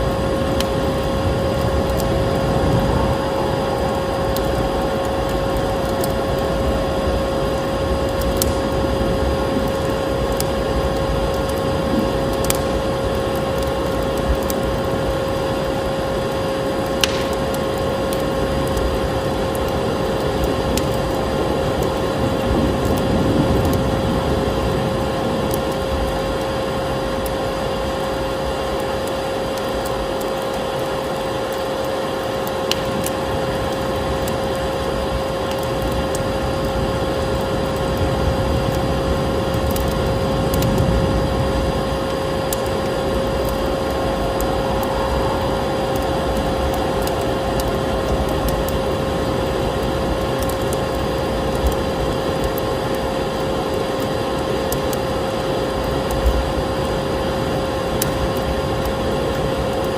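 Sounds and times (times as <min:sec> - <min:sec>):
vacuum cleaner motor whine: 0:00.0 - 0:59.9
wood fire crackling: 0:00.0 - 0:59.9.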